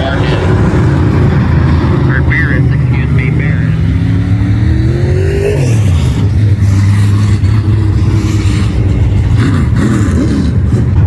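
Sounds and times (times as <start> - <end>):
race car engine: 0.0 - 11.0.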